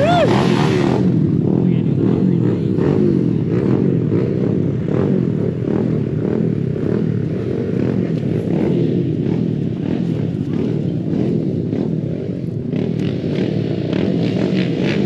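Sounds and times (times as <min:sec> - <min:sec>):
small motorbike engines revving: 0:00.0 - 0:15.0.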